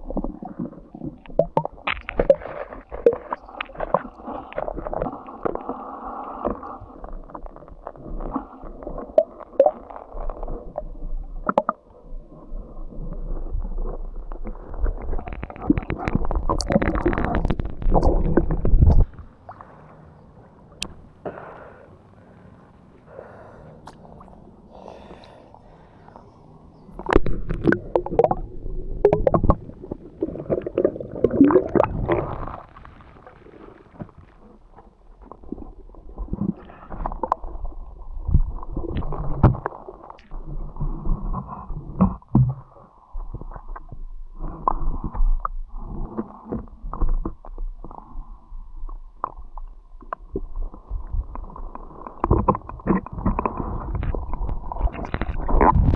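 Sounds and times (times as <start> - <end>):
muffled underwater gurgling: 0.0 - 55.9.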